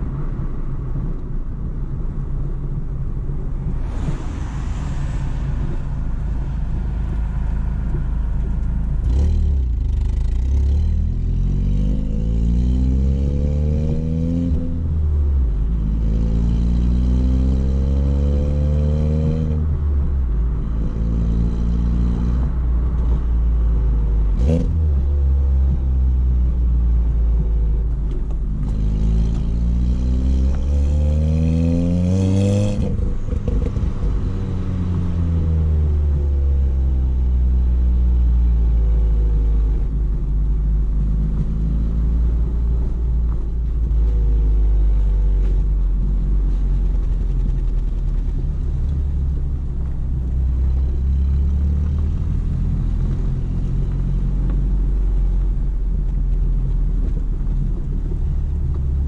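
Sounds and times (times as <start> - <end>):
car exhaust accelerating: 0.0 - 59.0
exhaust crack: 1.0 - 12.3, 22.4 - 59.0.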